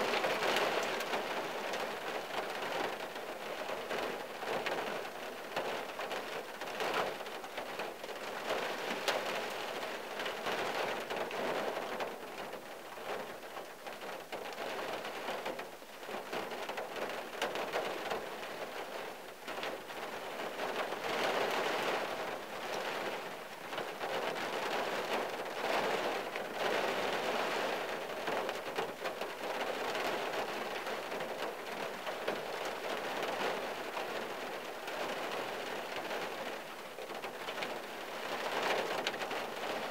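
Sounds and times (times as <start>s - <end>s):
rain on car windshield: 0.0s - 39.9s.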